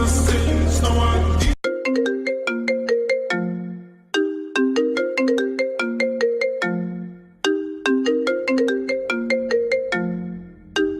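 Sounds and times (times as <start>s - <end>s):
phone ringtone melody: 1.6s - 10.9s.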